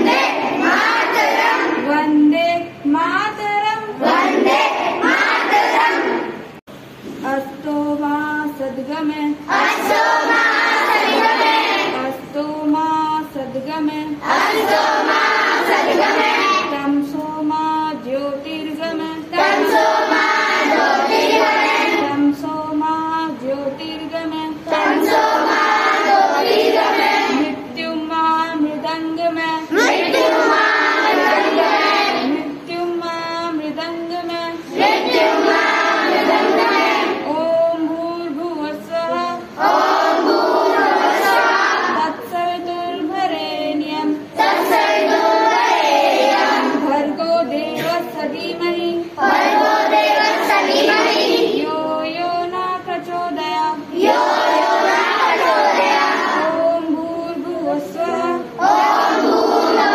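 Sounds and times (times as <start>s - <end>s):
children singing together: 0.0s - 2.0s, 3.9s - 6.6s, 9.4s - 12.4s, 14.1s - 17.3s, 17.9s - 23.4s, 24.0s - 27.8s, 29.6s - 59.9s
single voice singing: 7.2s - 59.9s.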